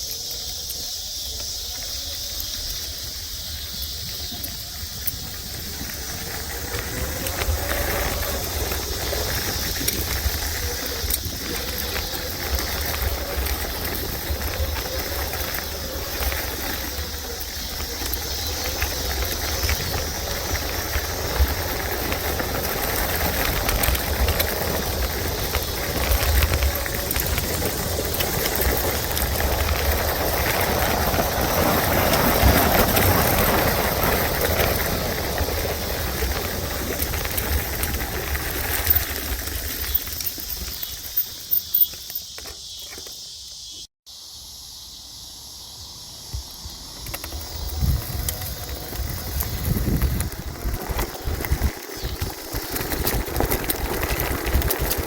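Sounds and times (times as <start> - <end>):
wind buffeting microphone: 0.0 - 41.9, 46.4 - 55.0
road rumble: 0.0 - 43.6, 45.3 - 55.0.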